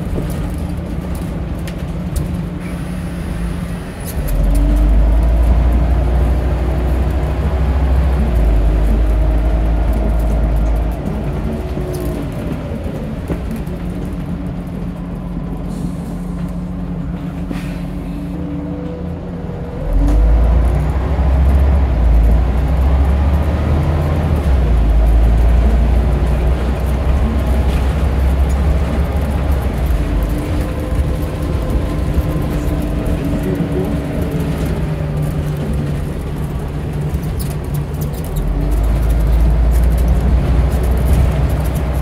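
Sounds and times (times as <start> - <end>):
diesel bus engine: 0.0 - 42.0.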